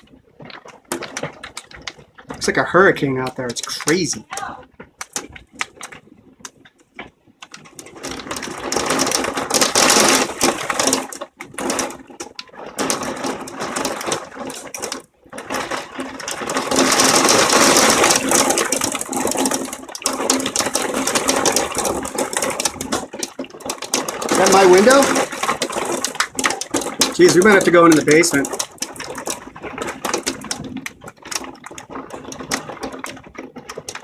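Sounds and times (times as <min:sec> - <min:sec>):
hailstones pounding on house: 0:00.0 - 0:34.0.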